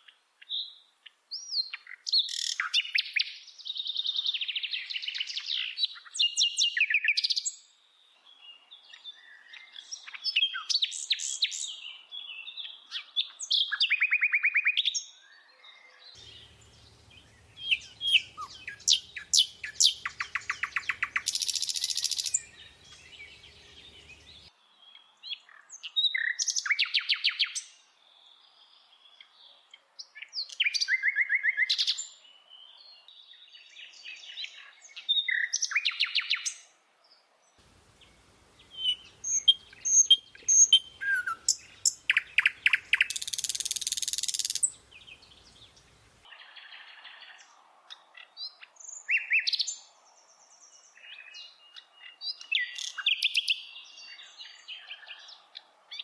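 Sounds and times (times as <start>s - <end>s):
bird singing chirps and trills: 0.0s - 36.7s, 37.6s - 56.0s.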